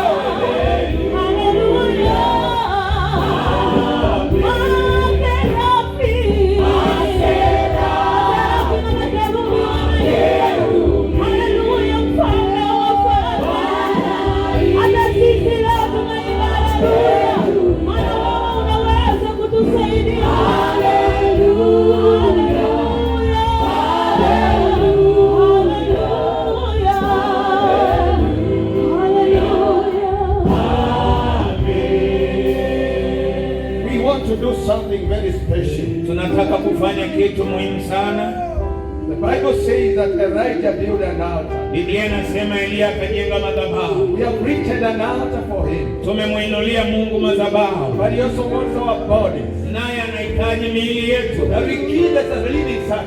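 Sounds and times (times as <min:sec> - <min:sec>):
congregation and choir singing gospel: 0:00.0 - 0:53.0
steady bass accompaniment: 0:00.0 - 0:53.0.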